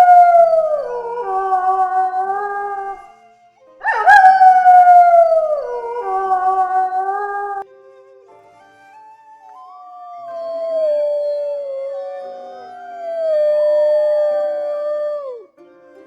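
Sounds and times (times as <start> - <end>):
wolf howling: 0.0 - 7.6, 8.9 - 15.5.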